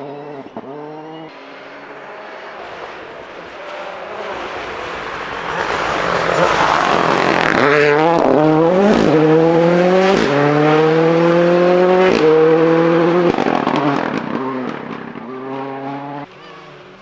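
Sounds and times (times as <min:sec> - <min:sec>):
rally car engine at full throttle: 0:00.0 - 0:17.0.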